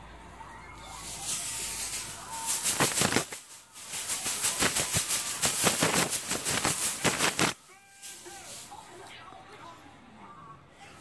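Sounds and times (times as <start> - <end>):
tv sound: 0.0 - 11.0.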